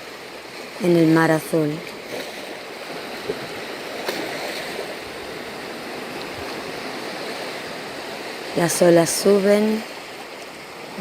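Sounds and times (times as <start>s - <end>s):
sea waves washing on beach: 0.0s - 11.0s.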